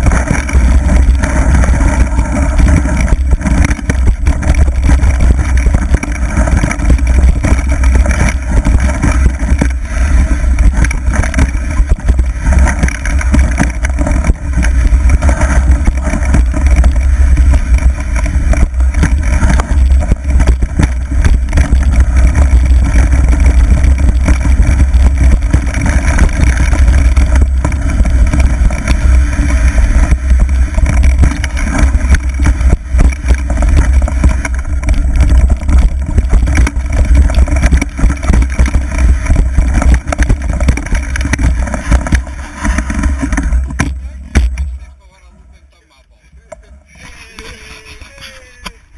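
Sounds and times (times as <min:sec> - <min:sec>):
wind buffeting microphone: 0:00.0 - 0:44.8
bike rattling and knocking: 0:00.0 - 0:44.9.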